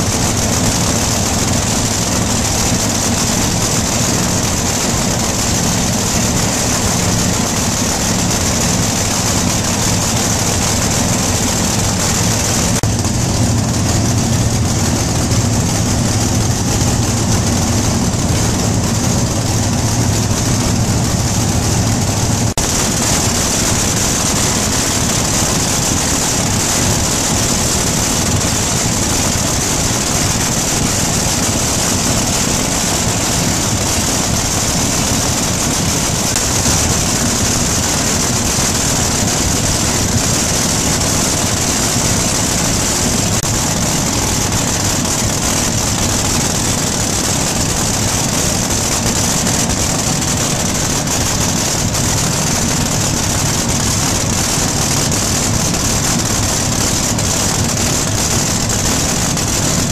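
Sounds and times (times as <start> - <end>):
engines idling loudly: 0.0 - 59.9.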